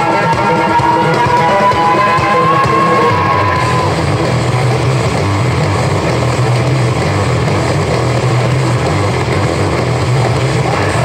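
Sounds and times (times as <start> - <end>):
dense din of noise: 0.0 - 11.0
music tone: 0.0 - 11.0
low hum: 1.5 - 11.0.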